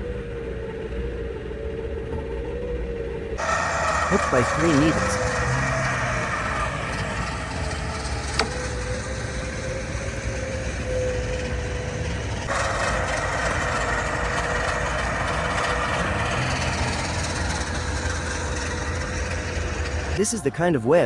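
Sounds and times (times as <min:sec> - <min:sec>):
off-road vehicle engines running: 0:00.0 - 0:21.0
thin whine: 0:00.0 - 0:21.0.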